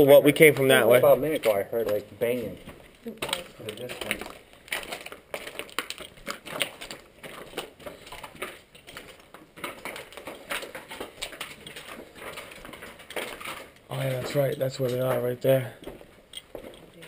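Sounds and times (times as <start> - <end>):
footsteps crunching over debris: 0.0 - 17.0.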